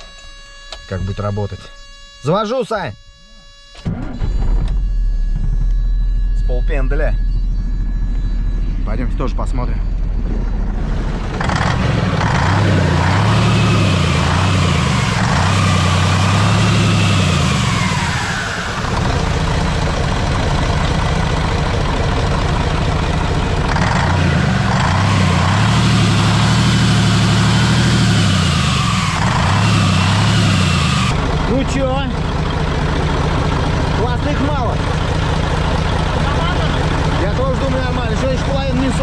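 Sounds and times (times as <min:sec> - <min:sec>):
diesel engine revving: 0:03.8 - 0:39.0.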